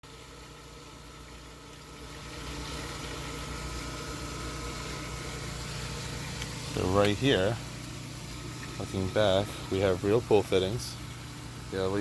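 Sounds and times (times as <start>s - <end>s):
circulating water hissing: 0.0s - 12.0s
pool pump humming: 0.0s - 12.0s.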